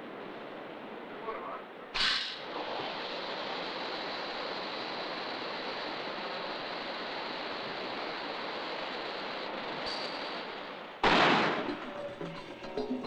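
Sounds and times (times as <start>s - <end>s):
wind tunnel airflow rushing: 0.0s - 12.7s.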